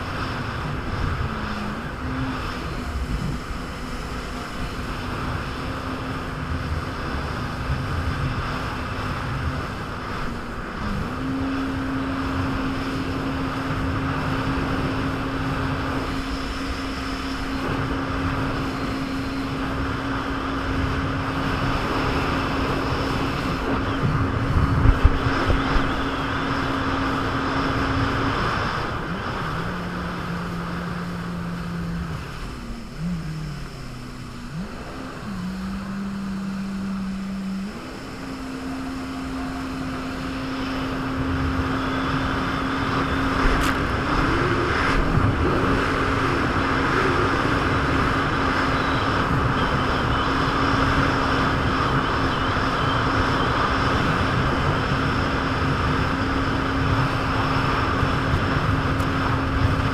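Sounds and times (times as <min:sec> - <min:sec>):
jet ski engine running: 0:00.0 - 0:59.9
rushing water and wind: 0:00.0 - 0:59.9.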